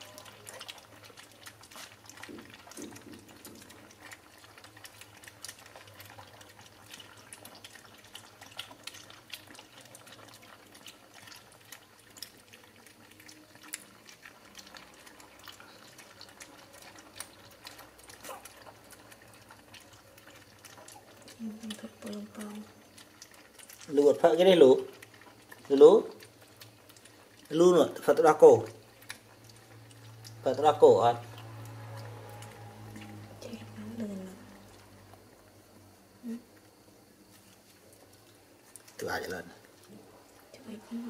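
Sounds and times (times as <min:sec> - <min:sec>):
puppies lapping milk: 0:00.0 - 0:41.0.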